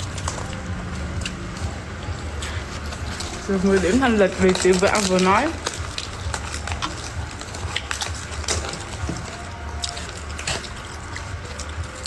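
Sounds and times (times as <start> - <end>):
chewing food: 0.0 - 12.0
low steady hum: 0.0 - 12.0.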